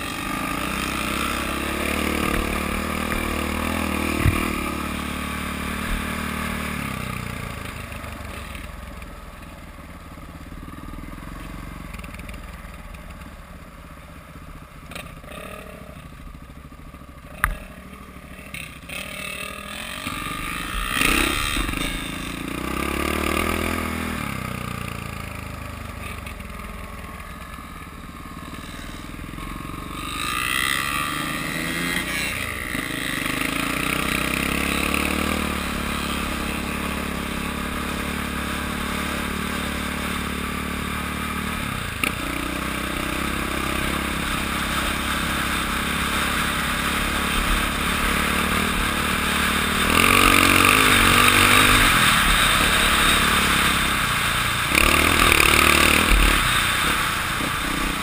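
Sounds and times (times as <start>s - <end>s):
dirt bike engine revving: 0.0s - 8.8s, 14.9s - 16.2s, 17.2s - 58.0s.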